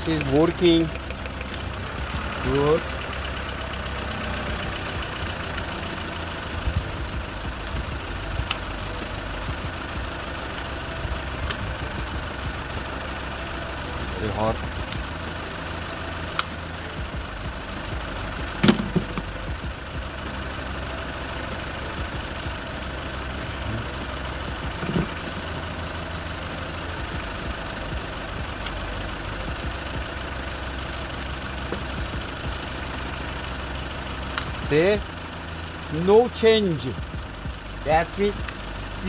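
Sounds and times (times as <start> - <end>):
car engine idling roughly: 0.0 - 39.0.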